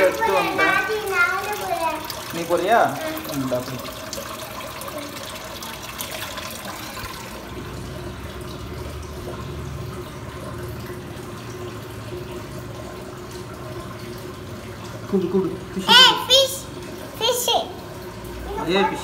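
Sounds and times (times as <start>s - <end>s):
water splashing into aquarium: 0.0s - 19.0s.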